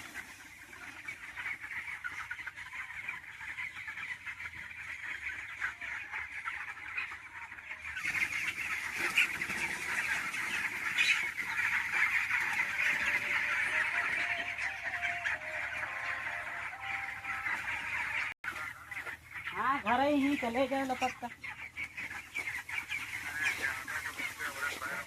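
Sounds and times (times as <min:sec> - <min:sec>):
chickens calling: 0:00.0 - 0:25.0.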